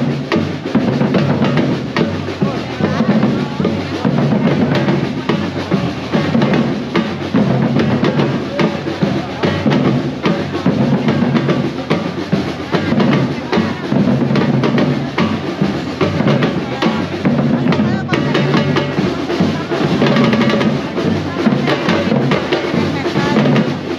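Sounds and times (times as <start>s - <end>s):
bass drum: 0.0s - 23.9s
drum-driven music: 0.0s - 23.9s
snare drum: 0.0s - 23.9s.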